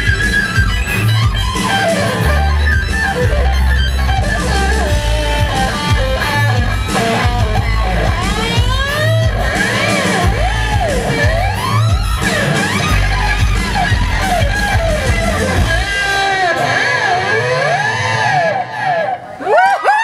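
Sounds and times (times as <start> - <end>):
low bass: 0.0 - 16.2
electric guitar lead: 0.0 - 20.0.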